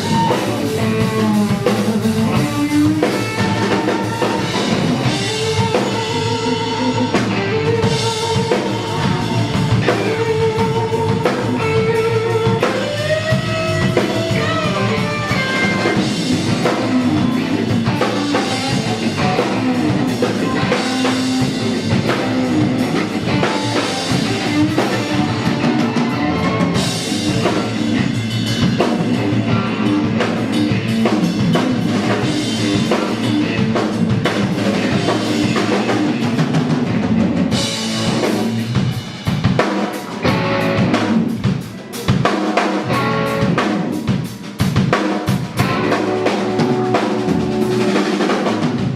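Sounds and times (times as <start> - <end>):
drum kit: 0.0 - 48.9
rock guitar riff: 0.0 - 48.9.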